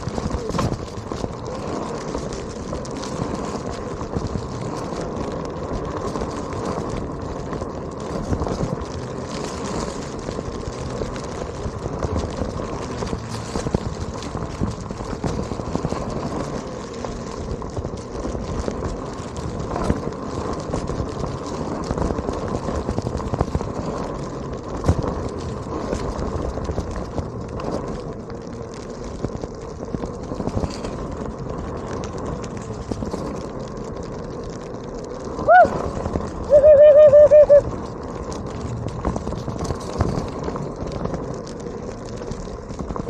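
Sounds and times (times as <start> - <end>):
board rolling over gravel: 0.0 - 43.0.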